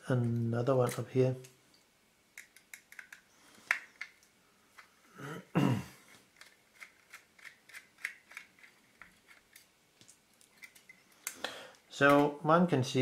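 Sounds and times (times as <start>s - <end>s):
small clicks of parts handled: 0.2s - 4.9s, 6.1s - 12.3s.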